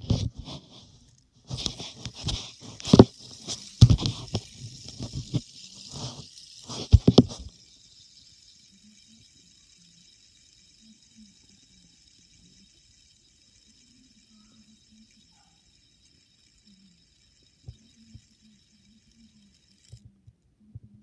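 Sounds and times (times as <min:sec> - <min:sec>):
spinner bearing whirring: 0:00.0 - 0:20.2
hand fumbling fidget spinner: 0:00.0 - 0:21.0.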